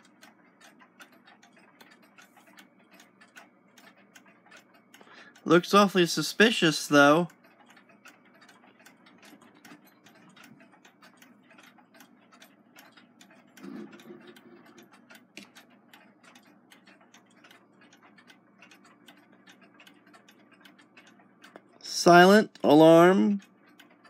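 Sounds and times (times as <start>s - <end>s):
alarm clocks ticking: 0.0s - 24.0s.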